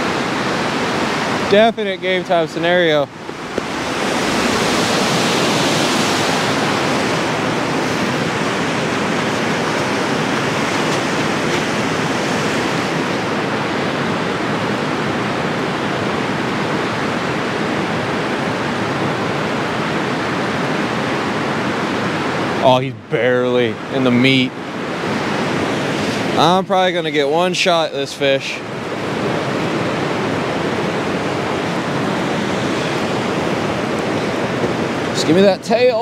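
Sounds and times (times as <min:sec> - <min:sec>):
churning water rushing: 0:00.0 - 0:36.0.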